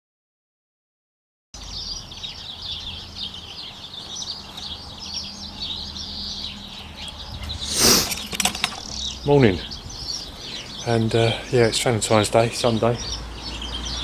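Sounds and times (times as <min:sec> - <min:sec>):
small birds chirping: 0:01.6 - 0:14.0.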